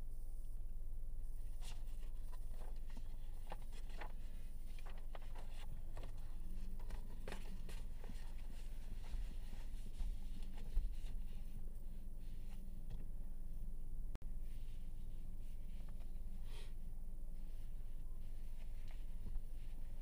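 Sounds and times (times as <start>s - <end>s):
low rumble in car cabin: 0.0s - 20.0s.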